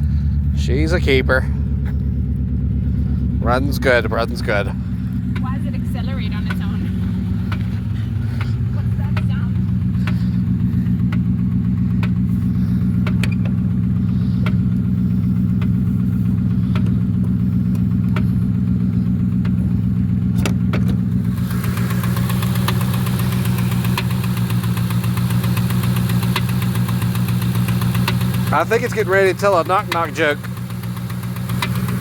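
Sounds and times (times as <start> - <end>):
car engine idling: 0.0 - 32.0
engine ticking: 0.0 - 32.0.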